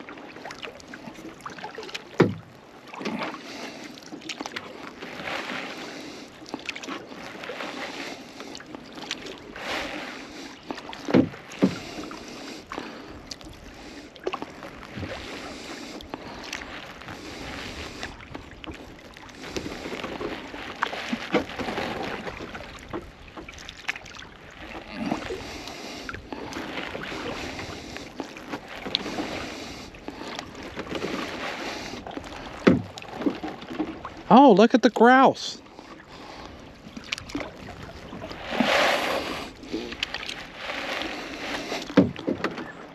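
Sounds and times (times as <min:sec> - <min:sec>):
water splashes and drips: 0:00.0 - 0:34.8, 0:35.8 - 0:42.9
paddle strokes through water: 0:00.0 - 0:42.9.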